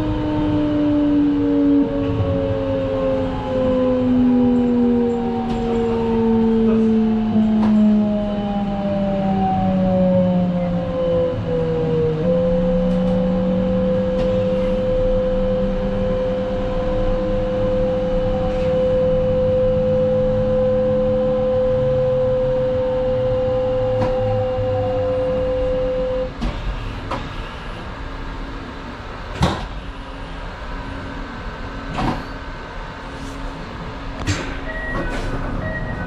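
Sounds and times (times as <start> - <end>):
train electrical whine and hum: 0.0 - 36.0.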